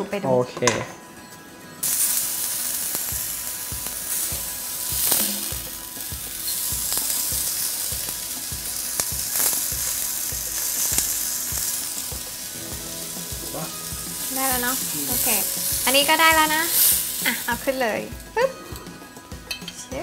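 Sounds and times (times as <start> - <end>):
chicken sizzling in a skillet: 1.8 - 20.0.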